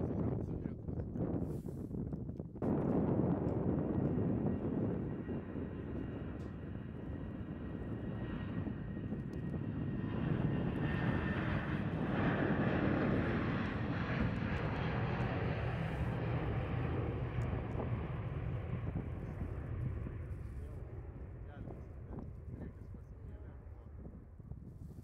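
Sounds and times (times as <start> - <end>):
jet engines at takeoff power: 0.1 - 25.0.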